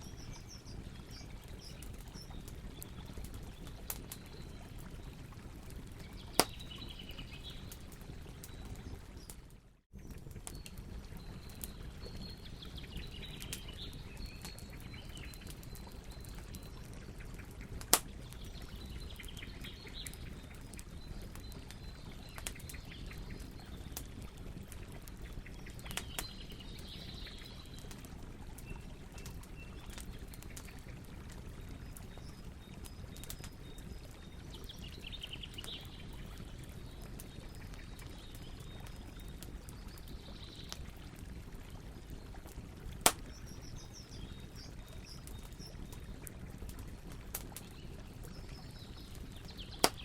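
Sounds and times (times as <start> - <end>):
campfire crackling: 0.0 - 50.0
campfire popping: 0.0 - 50.0
low rumble of fire: 0.0 - 50.0.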